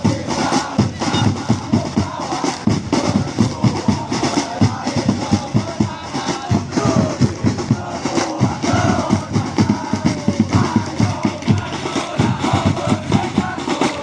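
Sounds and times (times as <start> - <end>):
crowd chanting: 0.0 - 14.0
drums beating fast rhythm: 0.0 - 14.0.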